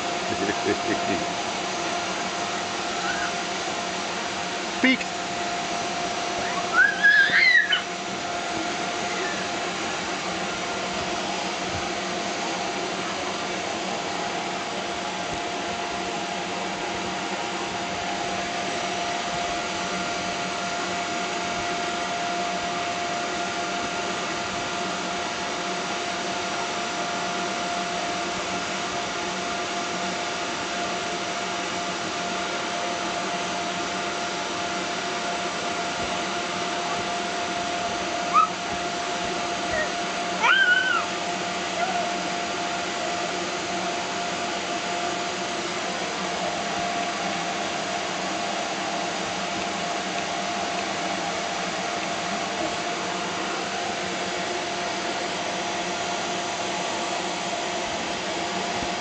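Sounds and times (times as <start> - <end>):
inflator blower whirring: 0.0 - 59.0.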